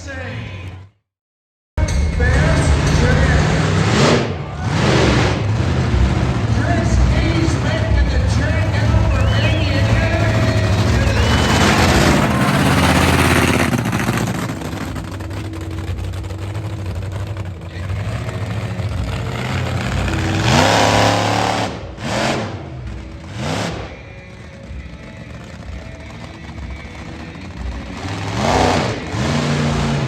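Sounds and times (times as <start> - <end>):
monster truck engine revving: 2.1 - 30.0.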